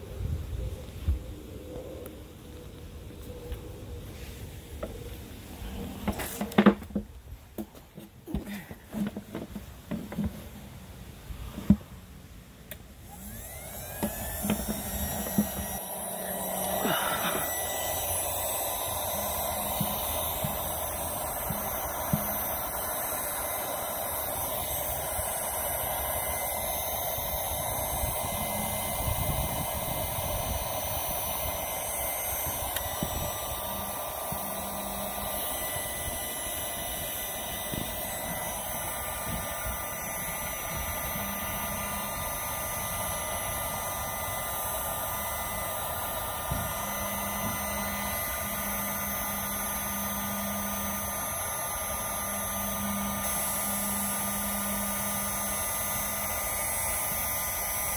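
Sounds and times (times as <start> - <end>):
heat gun blowing air: 2.0 - 57.9.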